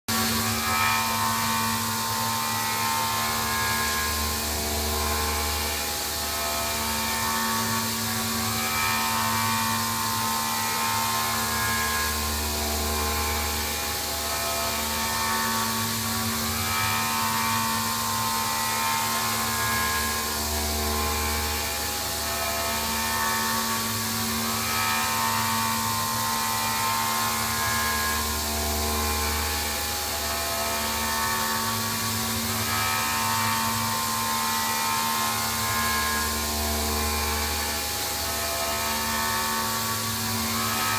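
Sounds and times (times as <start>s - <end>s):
cnc spindle whine: 0.1s - 40.9s.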